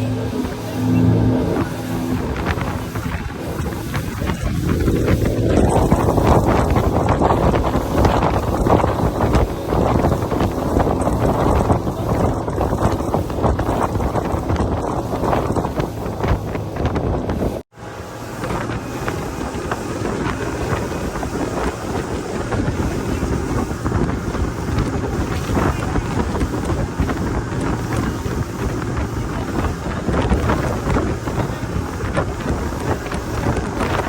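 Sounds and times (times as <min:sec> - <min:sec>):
rushing water: 0:00.0 - 0:34.0
speedboat engine rumble: 0:00.0 - 0:34.0
wind blasting the microphone: 0:00.0 - 0:34.0.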